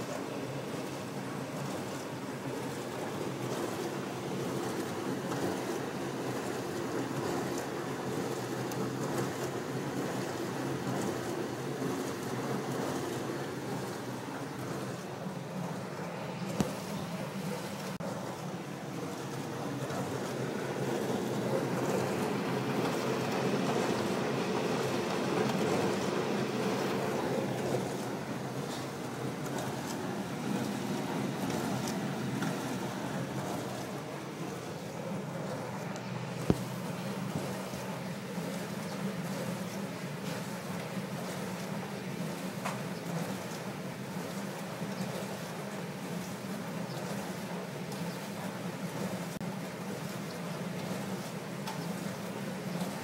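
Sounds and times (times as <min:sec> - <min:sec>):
dishwasher motor hum: 0:00.0 - 0:53.0
water spraying and sloshing: 0:00.0 - 0:53.0.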